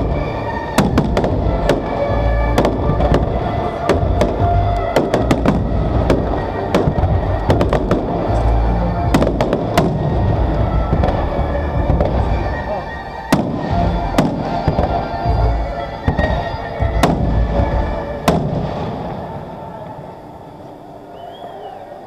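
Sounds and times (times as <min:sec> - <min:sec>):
fireworks bangs and crackles: 0:00.0 - 0:20.0
deep fireworks booms: 0:00.0 - 0:20.6
music playing: 0:00.0 - 0:22.0.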